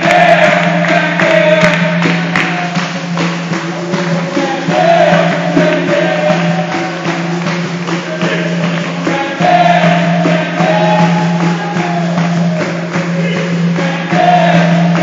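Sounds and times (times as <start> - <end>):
group singing together: 0.0 - 15.0
handclaps: 0.0 - 15.0
percussion: 0.0 - 15.0.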